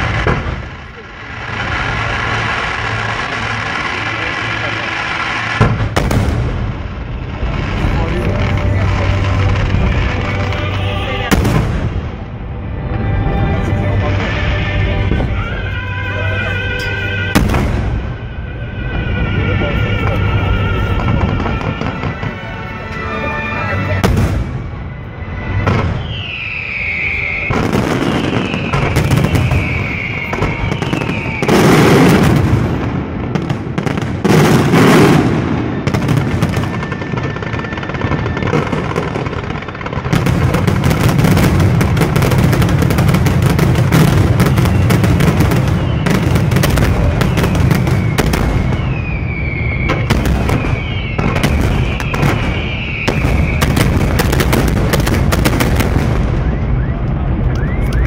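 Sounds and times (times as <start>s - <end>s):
big fireworks booms: 0.0s - 22.9s, 23.9s - 58.0s
fireworks bangs and crackling: 0.0s - 58.0s
whistling fireworks: 0.0s - 58.0s.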